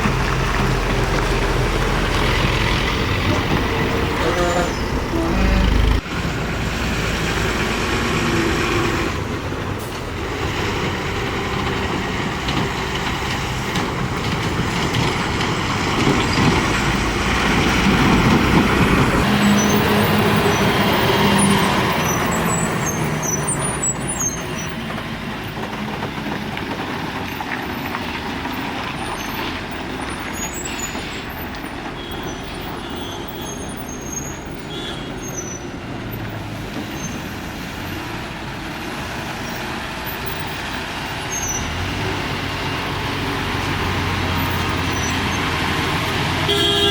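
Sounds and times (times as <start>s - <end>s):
truck engine passing: 0.0s - 46.9s.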